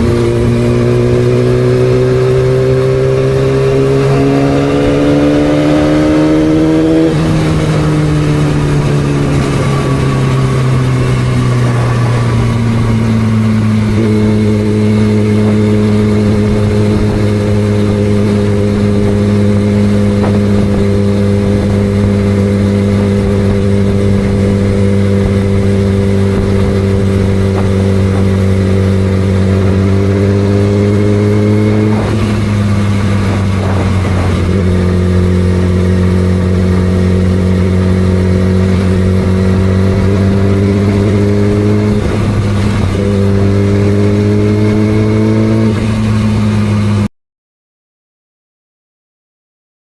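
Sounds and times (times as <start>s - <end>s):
motorcycle engine revving: 0.0s - 47.1s.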